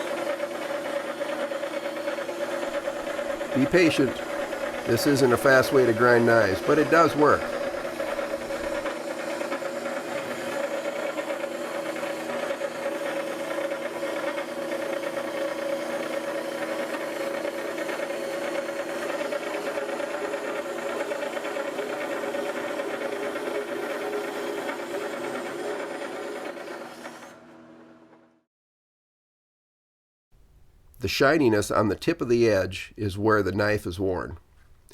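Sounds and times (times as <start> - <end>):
grinder motor humming: 0.0 - 28.4.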